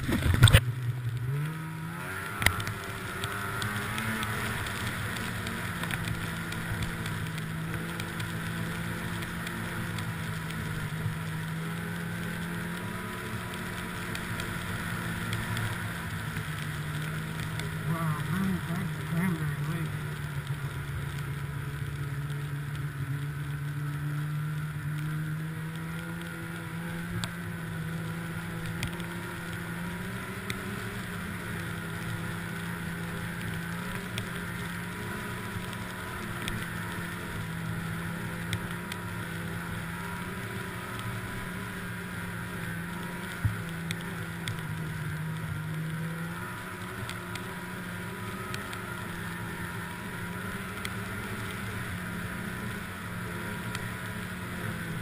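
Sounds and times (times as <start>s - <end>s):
snowmobile engine droning: 0.0s - 55.0s.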